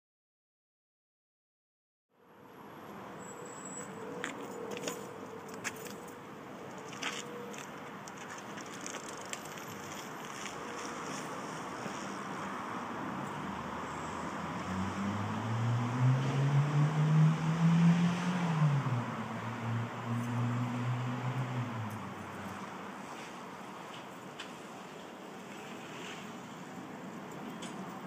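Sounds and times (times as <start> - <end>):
steady outdoor hiss: 2.2 - 15.5, 16.6 - 28.0.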